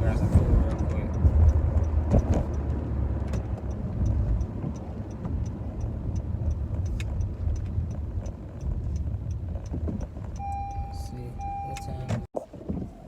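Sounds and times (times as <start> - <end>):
car engine and road rumble: 0.0 - 13.0
turn signal clicking: 0.1 - 13.0.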